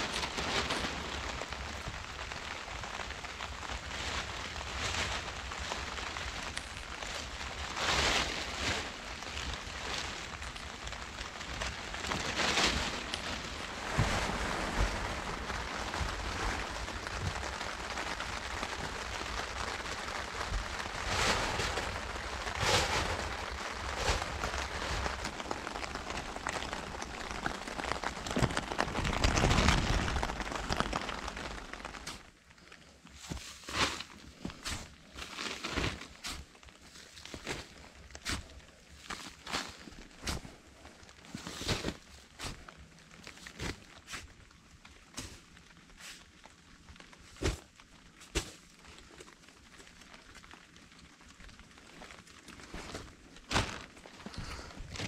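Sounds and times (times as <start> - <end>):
plastic tarpaulin rustling: 0.0 - 55.0.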